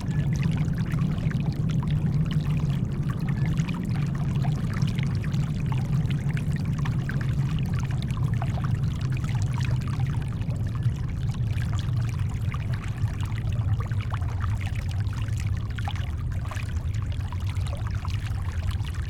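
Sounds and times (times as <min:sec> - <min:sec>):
brown noise rumble: 0:00.0 - 0:19.0.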